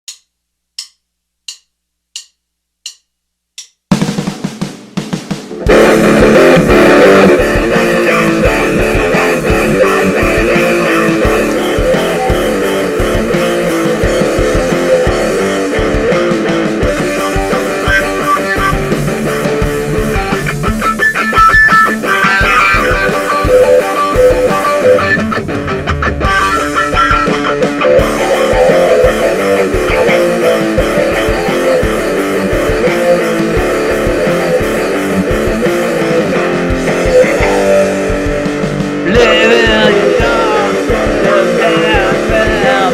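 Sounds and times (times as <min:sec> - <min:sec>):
guitar-led rock music: 0:05.3 - 0:42.9.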